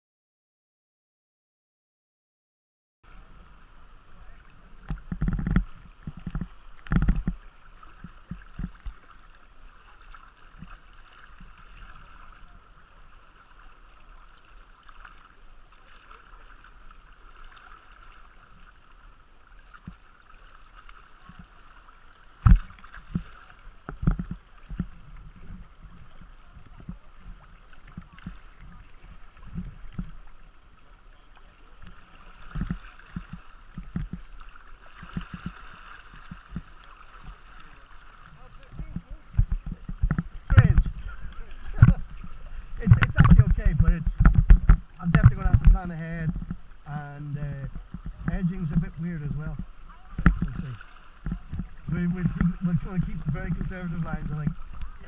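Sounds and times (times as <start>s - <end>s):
rushing river water: 3.1s - 55.0s
paddle thumps and splashes: 4.3s - 55.0s.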